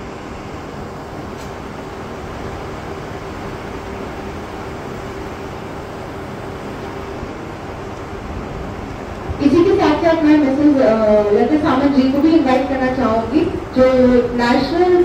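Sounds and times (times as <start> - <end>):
hall room noise hum and hiss: 0.0 - 15.0.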